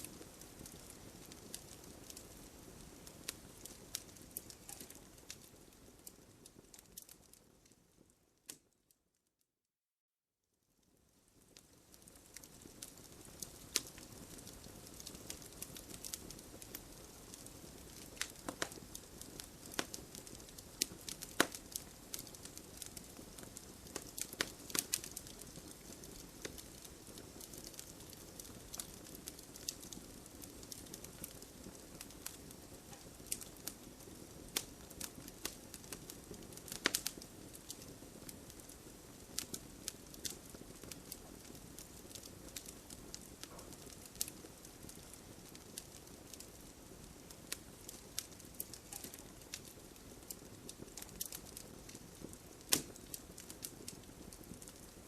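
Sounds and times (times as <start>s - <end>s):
campfire low hiss: 0.0s - 8.6s, 10.9s - 55.0s
burning wood crackling and popping: 0.0s - 8.7s, 10.8s - 55.0s.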